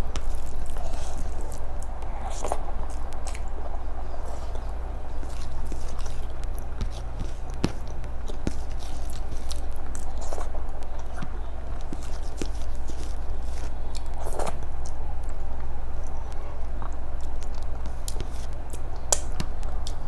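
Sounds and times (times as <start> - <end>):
person chewing rice: 0.0 - 20.0
steady low hum: 0.0 - 20.0.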